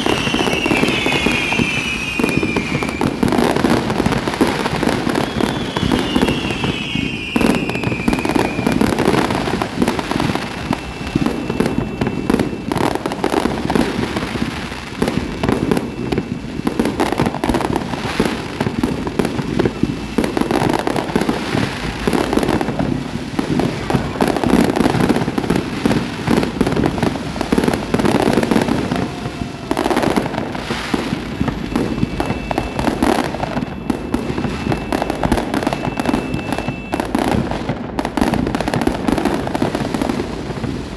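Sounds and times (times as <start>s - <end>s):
descending firework whistle: 0.0s - 40.9s
fireworks bursting and crackling: 0.0s - 40.9s.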